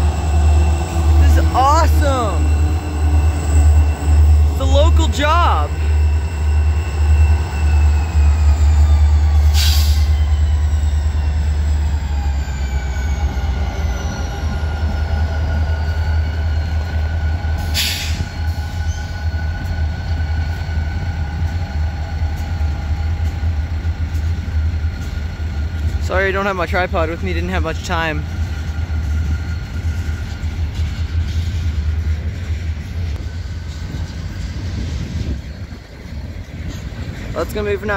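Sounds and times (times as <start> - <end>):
diesel locomotive rumble and whine: 0.0 - 37.9.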